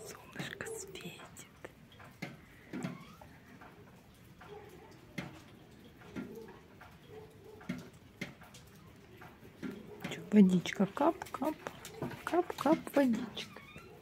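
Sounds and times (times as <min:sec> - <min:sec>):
water drops dripping: 0:00.0 - 0:14.0.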